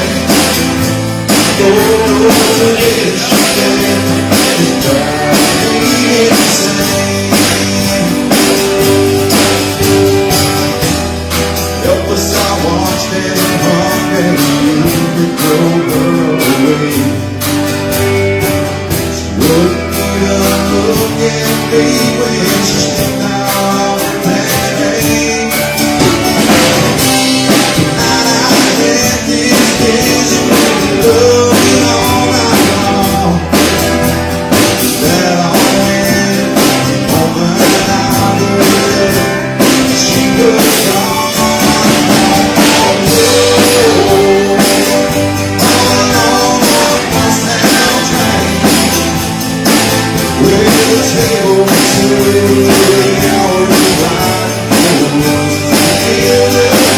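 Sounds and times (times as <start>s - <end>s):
live country-rock band: 0.0s - 56.9s
person singing: 0.0s - 56.9s.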